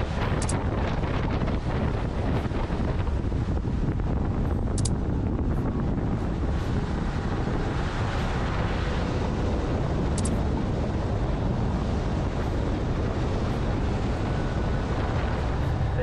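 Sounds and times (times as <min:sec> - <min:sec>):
boat engine: 0:00.0 - 0:16.0
water noise from waves: 0:00.0 - 0:16.0
wind buffeting microphone: 0:00.0 - 0:16.0.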